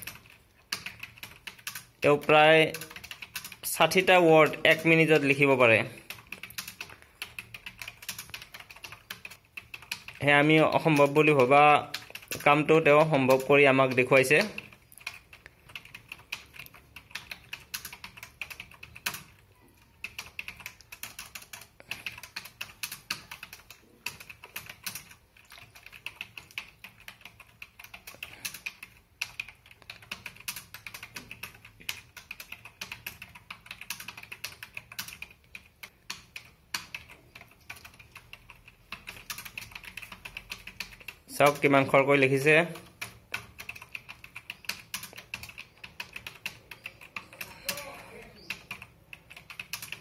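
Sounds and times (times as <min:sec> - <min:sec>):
keyboard typing: 0:00.0 - 0:50.0.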